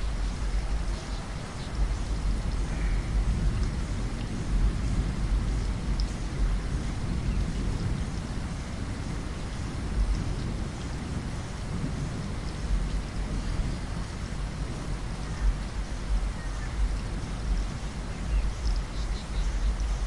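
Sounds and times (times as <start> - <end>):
deep uneven rumble: 0.0 - 20.0
rain pattering on a window: 0.0 - 20.0.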